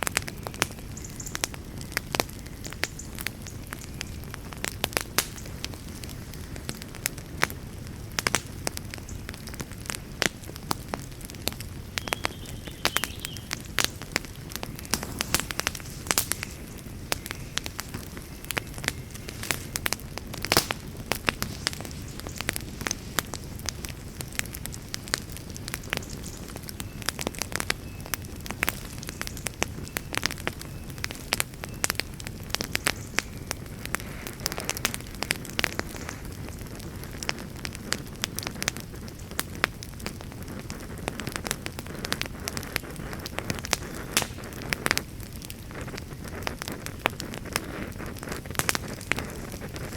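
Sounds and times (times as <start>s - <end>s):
fire crackling in fireplace: 0.0s - 49.9s.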